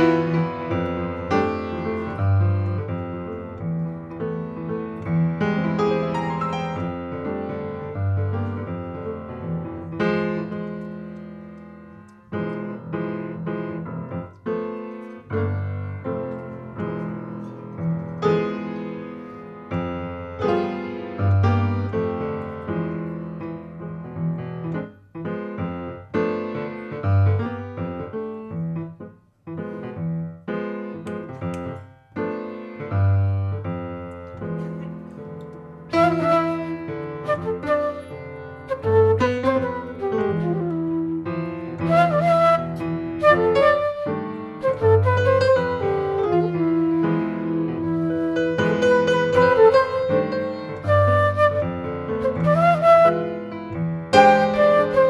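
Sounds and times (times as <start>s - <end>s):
jazz piano chords: 0.0s - 55.0s.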